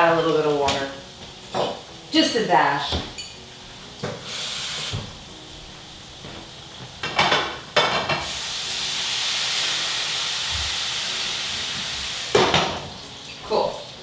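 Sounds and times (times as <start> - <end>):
pan and utensils clattering: 0.0 - 5.2, 6.9 - 14.0
hot pan sizzling: 0.0 - 14.0.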